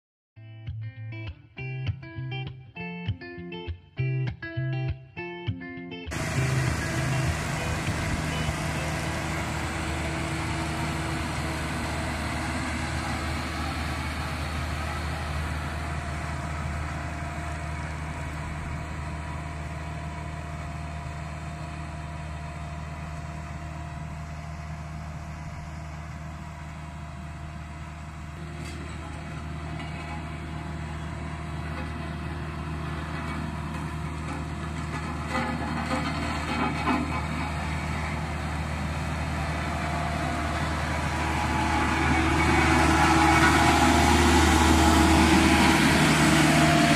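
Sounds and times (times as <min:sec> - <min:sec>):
road roller diesel engine: 0:06.1 - 0:46.9.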